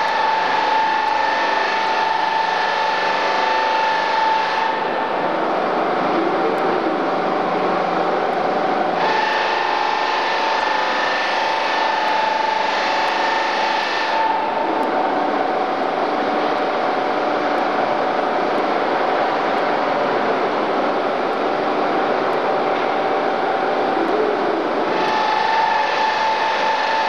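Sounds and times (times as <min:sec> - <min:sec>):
hissing grind of polishing wheel: 0:00.0 - 0:20.6, 0:23.3 - 0:27.0
machine whine: 0:00.0 - 0:27.0.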